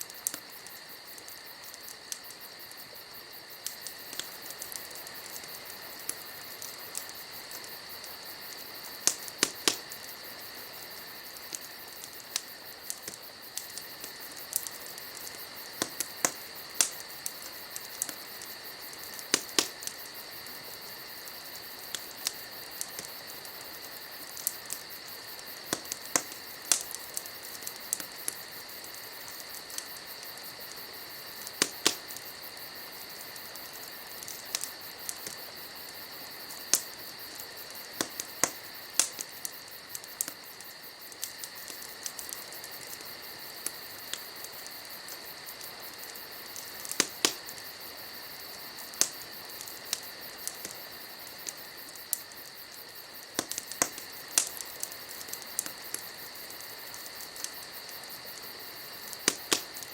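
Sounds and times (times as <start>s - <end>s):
crickets chirping: 0.0s - 59.9s
wood fire crackling and popping: 0.0s - 59.9s.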